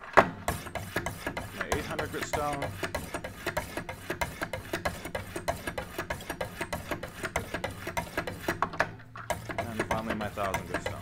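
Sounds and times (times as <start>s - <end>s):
sharpening stones rasping on knife: 0.5s - 8.7s, 9.3s - 11.0s.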